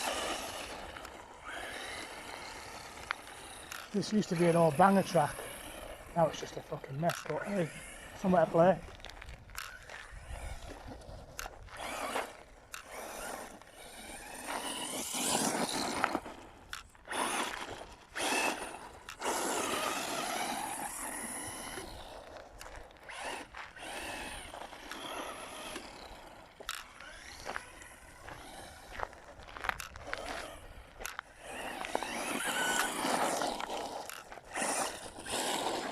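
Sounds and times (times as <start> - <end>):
electric motor whine: 0.0 - 35.9
gravel scraping under tyres: 0.0 - 35.9.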